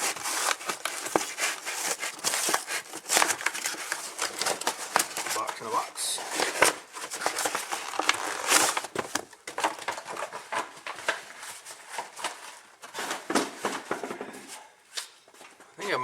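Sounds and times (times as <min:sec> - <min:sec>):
cardboard and packing rustling: 0:00.0 - 0:15.8.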